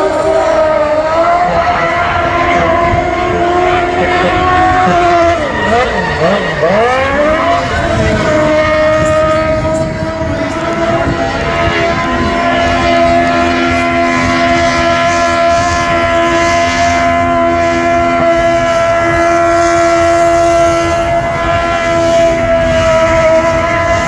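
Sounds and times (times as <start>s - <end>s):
car engine at high revs: 0.0s - 24.0s.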